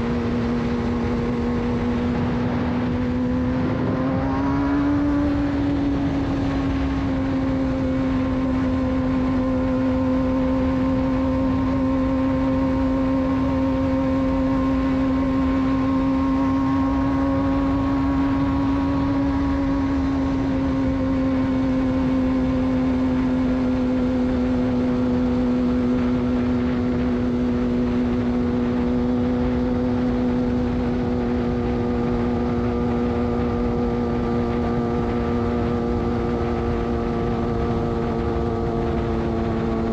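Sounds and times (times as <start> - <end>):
motorcycle engine at high rpm: 0.0 - 39.9
steady rushing noise: 0.0 - 39.9.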